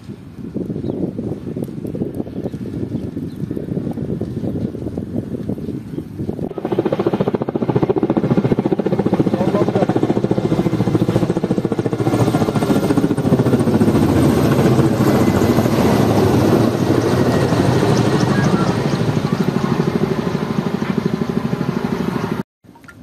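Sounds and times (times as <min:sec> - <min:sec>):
helicopter rotor beating: 0:01.3 - 0:22.4.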